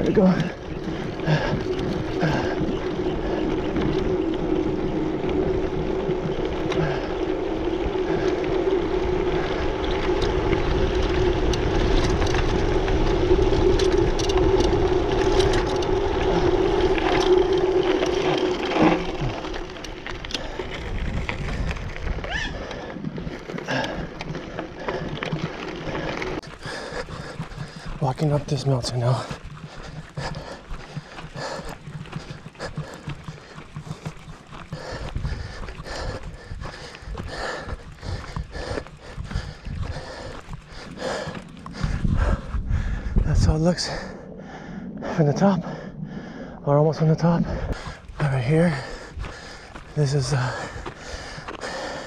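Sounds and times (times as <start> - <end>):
mountain bike rolling on dirt: 0.0 - 52.0.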